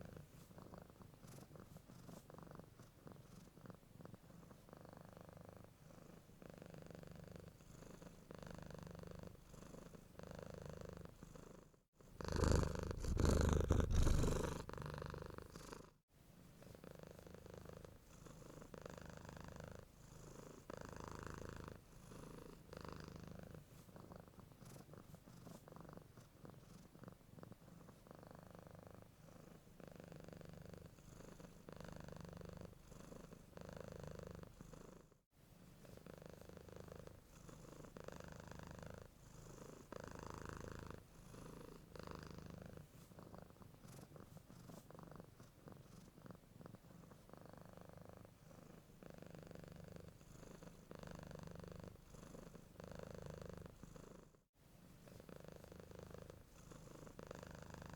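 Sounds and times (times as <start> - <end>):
cat purring: 0.0 - 54.4, 55.0 - 57.9.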